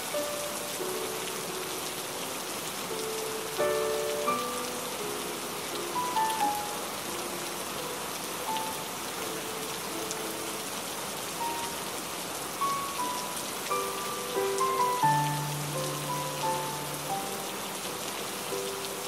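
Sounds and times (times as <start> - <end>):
rain falling: 0.0 - 19.0
slow melody of soft notes: 0.0 - 19.0.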